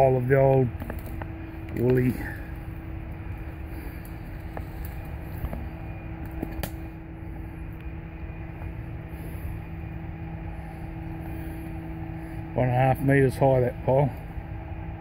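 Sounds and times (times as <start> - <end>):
steady low hum with rumble: 0.0 - 15.0.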